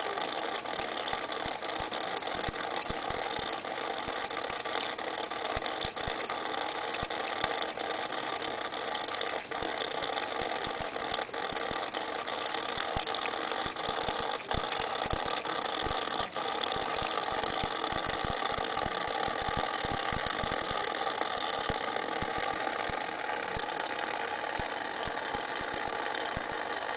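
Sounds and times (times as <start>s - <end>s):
cat lapping water: 0.0s - 26.9s
tap water running into steel sink: 0.0s - 26.9s.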